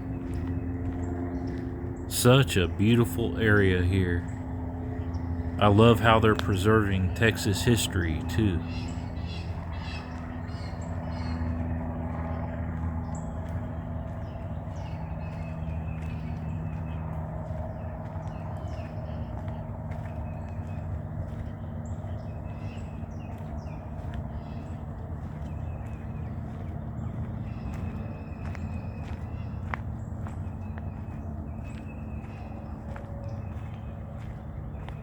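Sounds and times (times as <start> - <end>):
footsteps on woodland trail: 0.0 - 35.0
low mechanical hum: 0.0 - 35.0
steady low rumble: 0.0 - 35.0.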